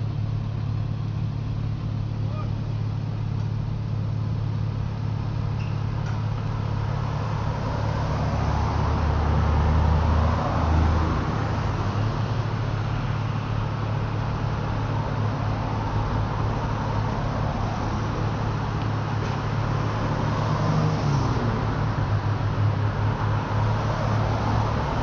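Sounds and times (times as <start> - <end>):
truck engines idling: 0.0 - 20.2.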